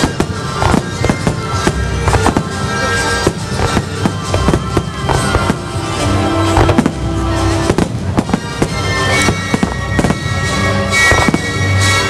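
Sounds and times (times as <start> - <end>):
fireworks bursting: 0.0 - 12.0
music with long held notes: 0.0 - 12.0.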